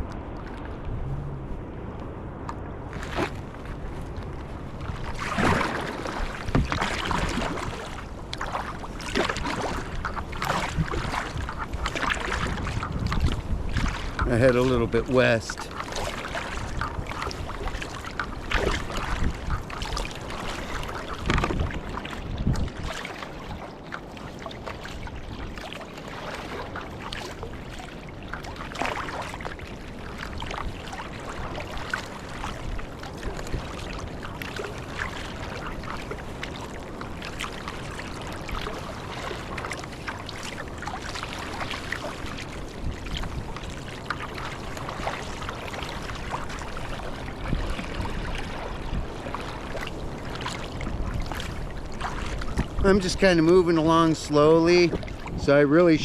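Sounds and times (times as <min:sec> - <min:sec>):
paddle strokes splashing: 0:00.0 - 0:56.0
waves lapping against hull: 0:00.0 - 0:56.0.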